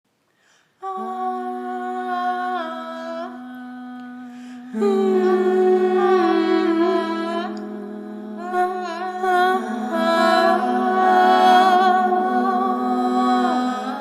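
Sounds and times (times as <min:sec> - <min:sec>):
person humming a melody: 0:00.8 - 0:14.0.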